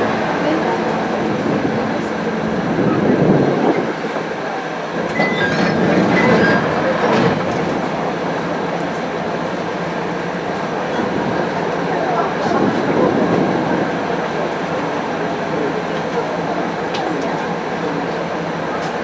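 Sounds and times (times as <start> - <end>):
diesel railcar running: 0.0 - 19.0
train rumbling over rail joints: 0.0 - 19.0.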